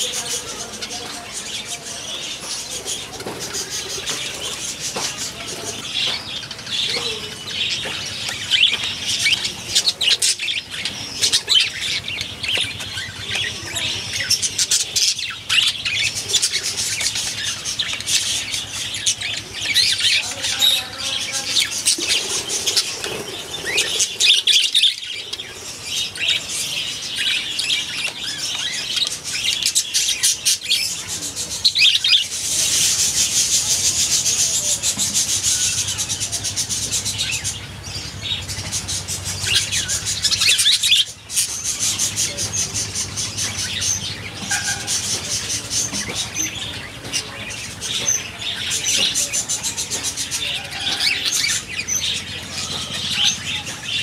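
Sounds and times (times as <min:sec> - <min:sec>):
budgerigars chattering and chirping: 0:00.0 - 0:54.0.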